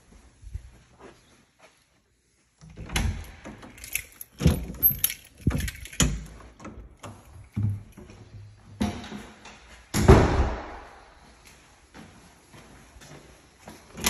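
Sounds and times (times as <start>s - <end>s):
footsteps indoors: 0.0s - 14.0s.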